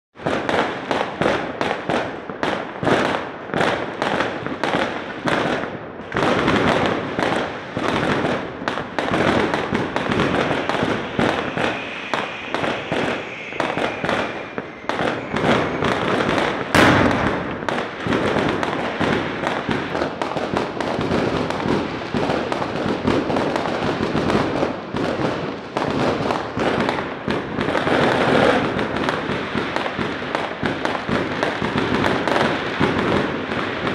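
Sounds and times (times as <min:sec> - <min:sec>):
fireworks bangs and crackles: 0:00.2 - 0:33.9.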